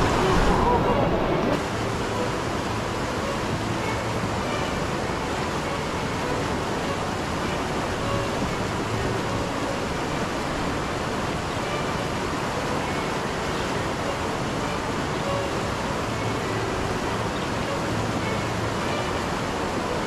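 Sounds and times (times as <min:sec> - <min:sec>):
river rushing over rapids: 0:00.0 - 0:20.0.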